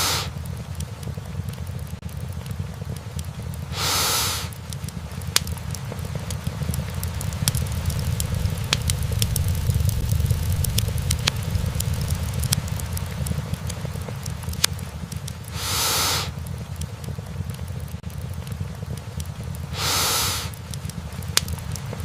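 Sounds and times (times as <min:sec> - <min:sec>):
fire hiss: 0:00.0 - 0:22.0
low rumble of flames: 0:00.0 - 0:22.0
wood fire crackling and popping: 0:00.0 - 0:22.0.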